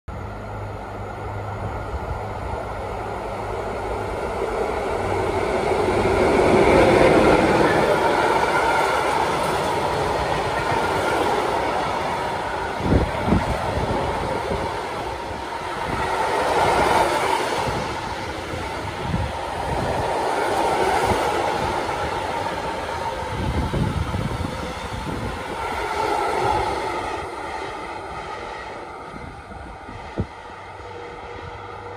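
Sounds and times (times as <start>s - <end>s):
train wheels rumbling on rail: 0.1s - 31.9s.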